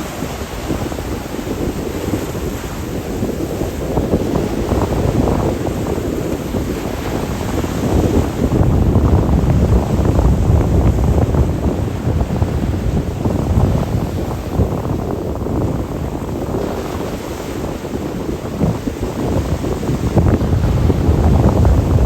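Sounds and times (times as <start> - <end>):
sea waves on shore: 0.0 - 22.0
wind buffeting microphone: 0.0 - 22.0.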